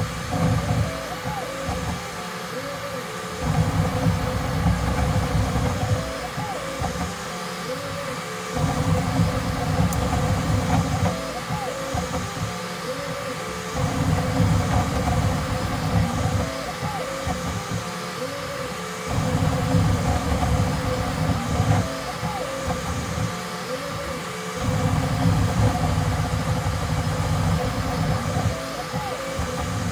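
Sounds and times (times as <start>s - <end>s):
fans humming: 0.0s - 29.9s
stepper motors whining: 0.0s - 29.9s.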